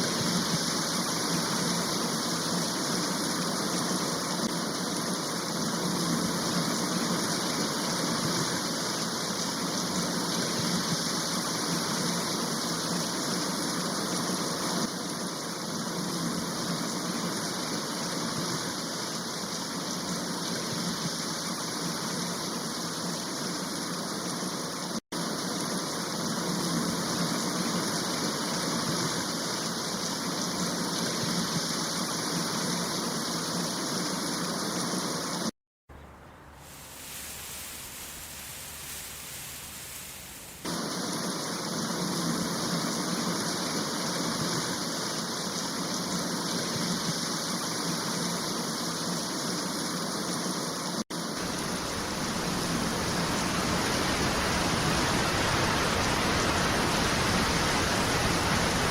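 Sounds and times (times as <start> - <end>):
rush of falling water: 0.0 - 35.5, 36.5 - 58.9.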